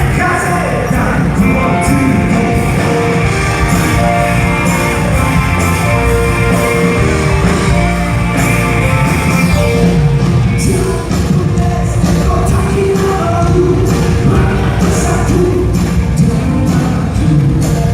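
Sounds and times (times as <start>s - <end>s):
electric guitar: 0.0s - 17.9s
live rock band instrumental: 0.0s - 17.9s.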